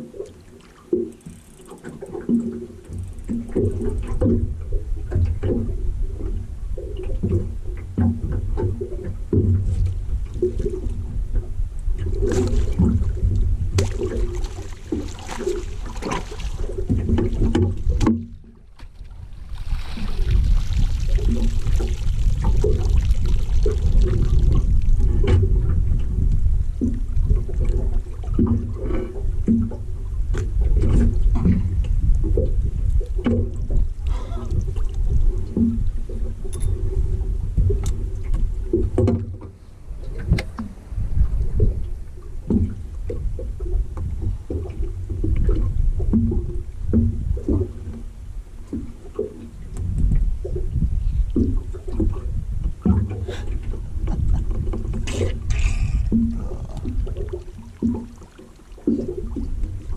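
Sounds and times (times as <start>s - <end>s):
boat engine low rumble: 0.0s - 59.9s
water sounds: 0.0s - 59.9s.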